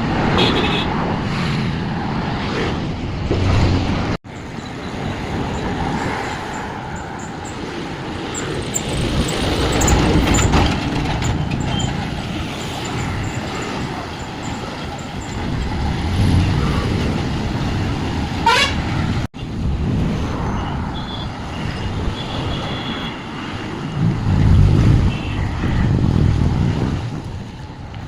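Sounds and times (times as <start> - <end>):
road noise: 0.0 - 28.0
vehicle engines: 0.0 - 28.0.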